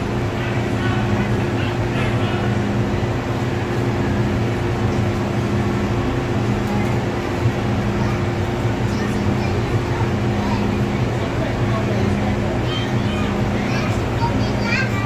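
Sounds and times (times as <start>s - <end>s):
train mechanical hum: 0.0s - 15.0s.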